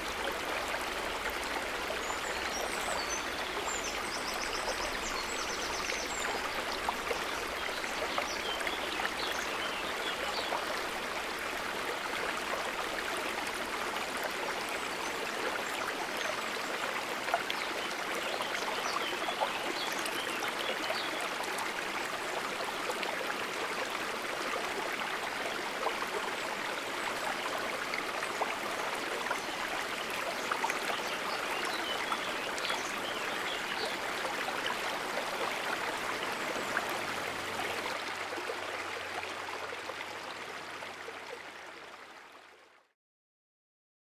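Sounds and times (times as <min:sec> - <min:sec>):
stream water running: 0:00.0 - 0:42.8.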